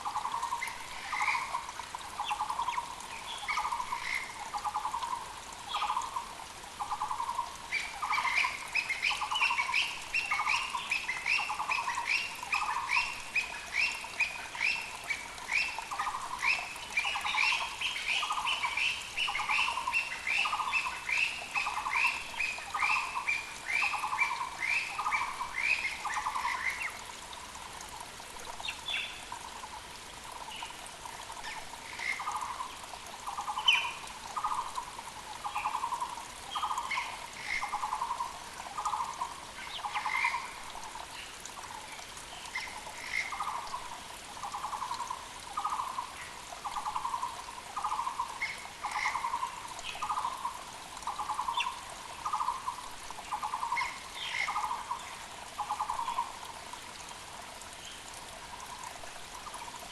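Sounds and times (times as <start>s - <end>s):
mountain creek flowing: 0.0s - 59.9s.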